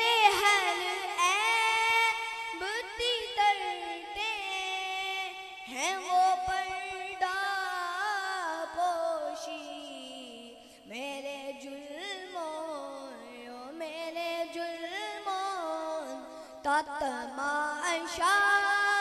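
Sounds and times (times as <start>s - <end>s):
boy singing into a microphone: 0.0s - 19.0s.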